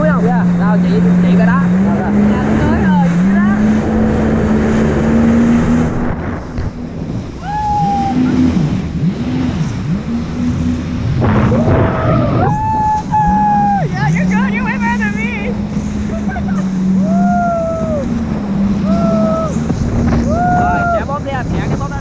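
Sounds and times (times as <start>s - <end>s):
jet ski engine running: 0.0s - 22.0s
rushing water and spray: 0.0s - 22.0s.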